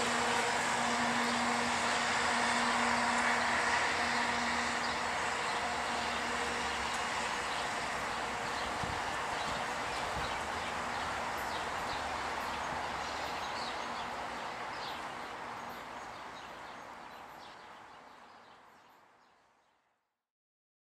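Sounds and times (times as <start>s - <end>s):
electric train rumbling: 0.0s - 19.0s
birds chirping: 0.0s - 19.5s.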